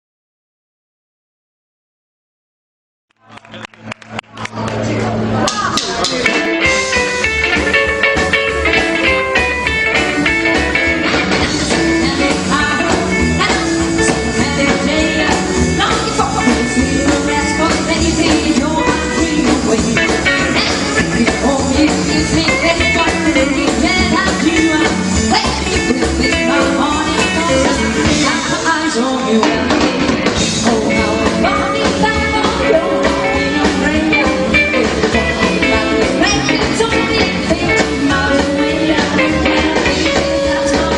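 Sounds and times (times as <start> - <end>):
rockabilly band playing live: 3.2 - 40.9.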